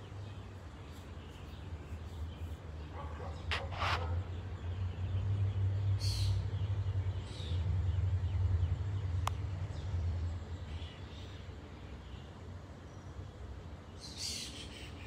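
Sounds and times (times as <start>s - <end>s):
bird calls: 0.0s - 12.3s, 13.9s - 15.0s.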